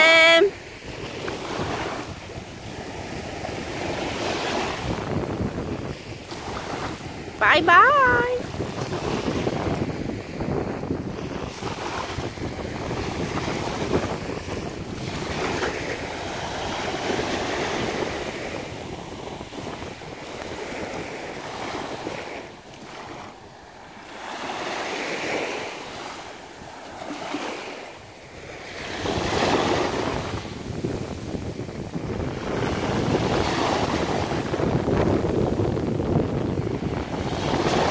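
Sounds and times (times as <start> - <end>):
waves breaking on beach: 0.0 - 37.9
wind buffeting microphone: 0.0 - 37.9.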